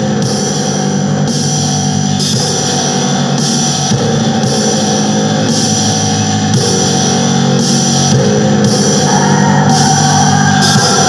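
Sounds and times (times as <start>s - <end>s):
slow distorted guitar chords: 0.0s - 11.0s.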